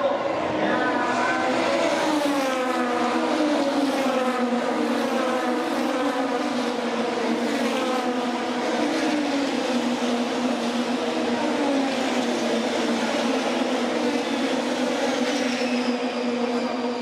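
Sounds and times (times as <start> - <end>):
race cars passing at full speed: 0.0 - 17.0.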